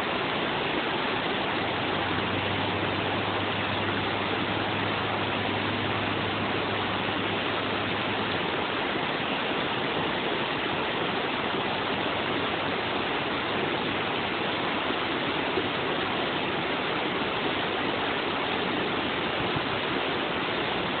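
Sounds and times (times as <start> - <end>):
river rushing through rapids: 0.0 - 21.0.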